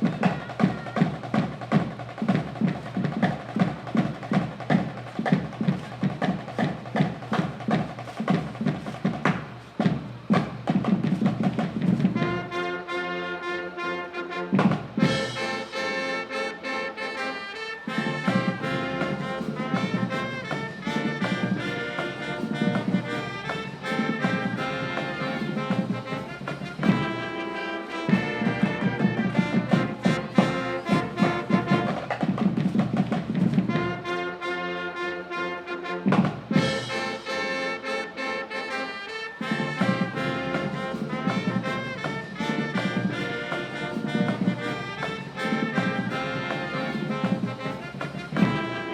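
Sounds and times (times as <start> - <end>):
upbeat brass music with drums: 0.0 - 48.9.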